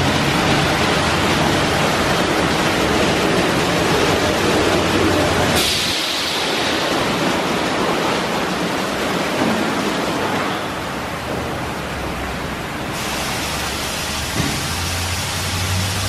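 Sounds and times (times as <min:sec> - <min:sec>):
car wash spraying water: 0:00.0 - 0:16.0.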